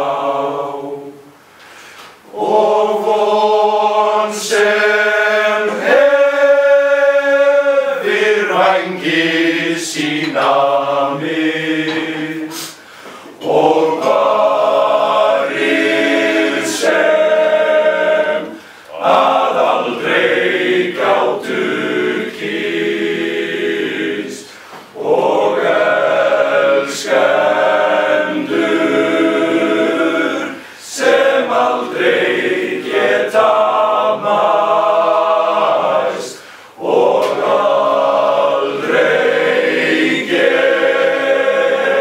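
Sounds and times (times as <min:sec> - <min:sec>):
male choir singing unaccompanied: 0:00.0 - 0:01.4, 0:02.3 - 0:42.0.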